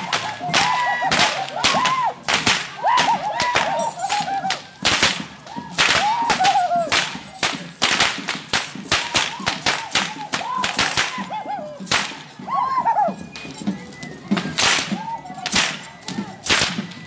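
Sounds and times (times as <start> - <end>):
whips cracking: 0.0 - 12.3, 14.6 - 17.0
high reedy flute melody: 0.0 - 17.0.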